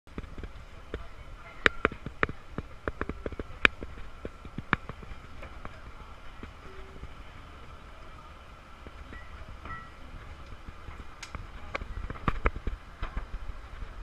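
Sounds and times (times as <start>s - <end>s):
low outdoor background rumble: 0.1s - 14.0s.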